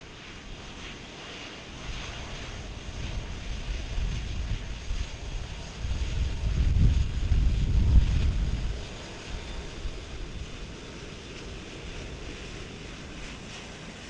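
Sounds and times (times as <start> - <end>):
airplane rumble: 0.0 - 14.0
wind buffeting microphone: 1.8 - 14.0.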